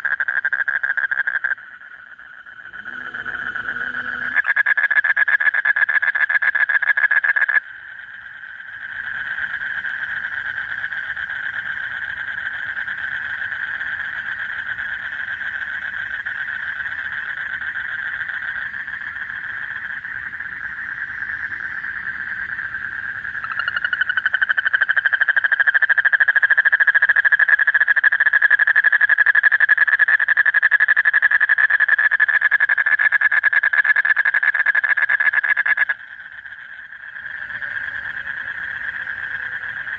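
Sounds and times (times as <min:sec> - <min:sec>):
toad trilling: 0:00.0 - 0:39.9.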